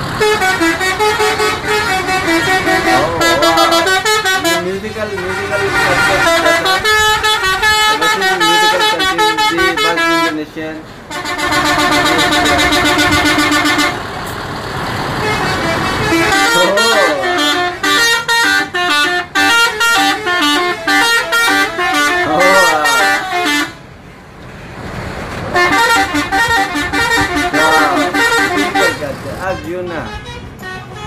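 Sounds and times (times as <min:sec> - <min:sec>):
musical bus horns tooting: 0:00.0 - 0:24.7, 0:25.4 - 0:31.0.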